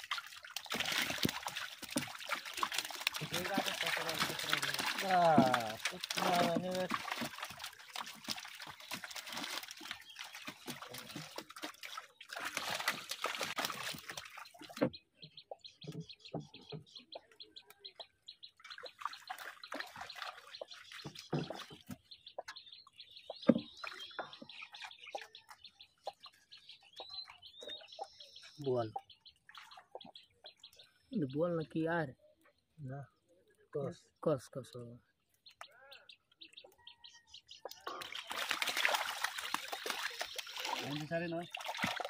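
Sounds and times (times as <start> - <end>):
water splashing and dripping: 0.0 - 31.9, 34.6 - 42.0
birds chirping faintly: 0.0 - 42.0.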